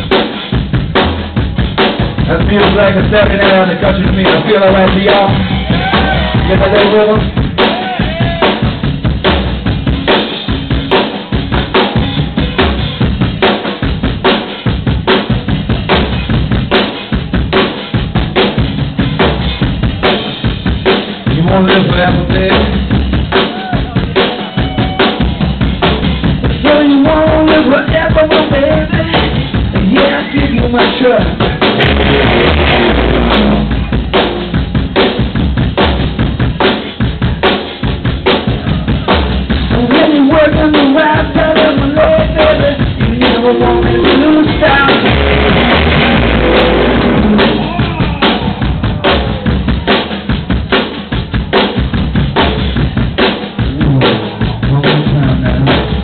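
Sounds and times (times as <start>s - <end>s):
live rock band playing: 0.0s - 56.0s
loud kit drumming: 0.0s - 56.0s.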